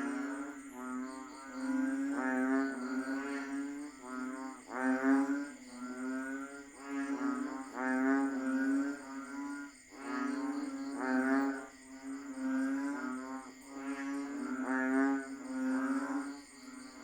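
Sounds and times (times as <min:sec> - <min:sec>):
chorus of frogs droning: 0:00.0 - 0:17.0.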